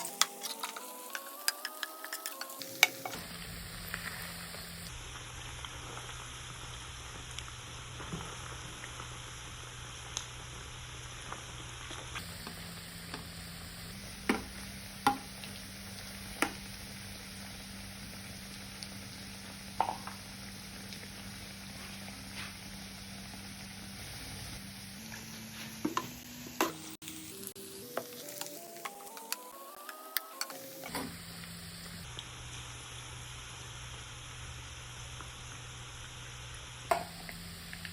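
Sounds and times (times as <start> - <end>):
food sizzling in a pan: 0.0 - 37.9.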